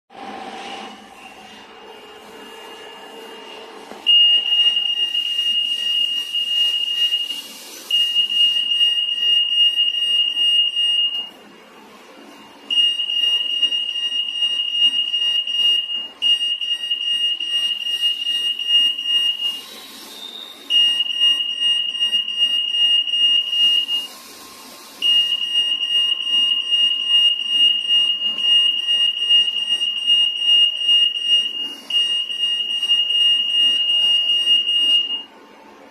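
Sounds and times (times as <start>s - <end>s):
high-pitched alarm tone: 4.1s - 11.3s, 12.7s - 24.2s, 25.0s - 35.3s.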